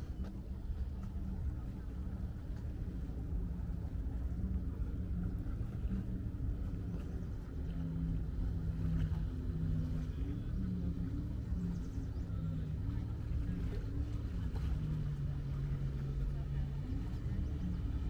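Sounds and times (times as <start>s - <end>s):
motorboat engine rumble: 0.0s - 18.0s.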